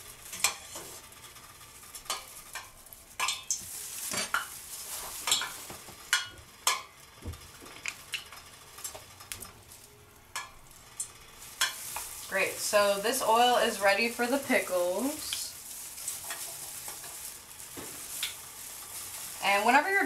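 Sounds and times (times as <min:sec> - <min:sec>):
oil sizzling with pops and crackles: 0:00.0 - 0:20.0.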